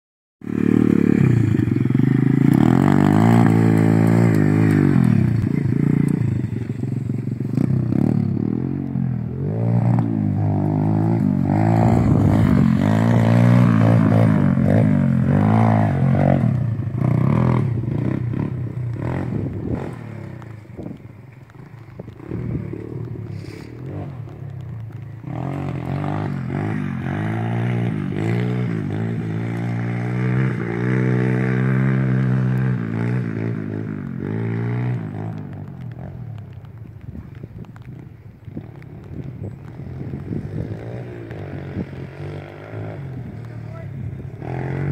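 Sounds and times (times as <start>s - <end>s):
motorbike engine revving: 0.4s - 36.2s, 39.1s - 44.9s.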